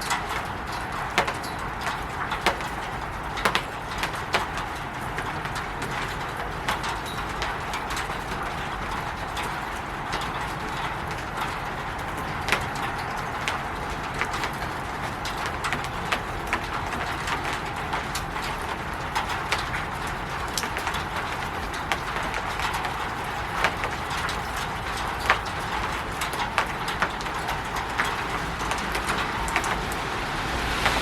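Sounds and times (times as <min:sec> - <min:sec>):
rain on a roof: 0:00.0 - 0:31.0.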